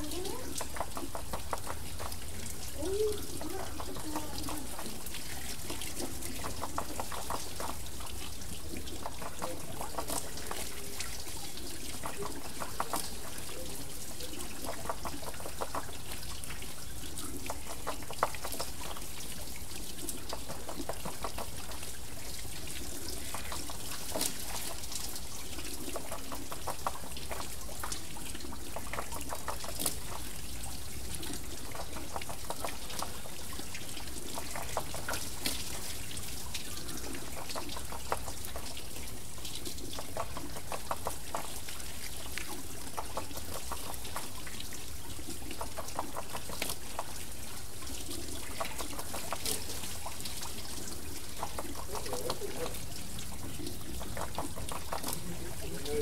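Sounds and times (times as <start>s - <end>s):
water pouring and trickling: 0.0s - 56.0s
water splashing: 0.0s - 56.0s
water wheel turning: 0.0s - 56.0s.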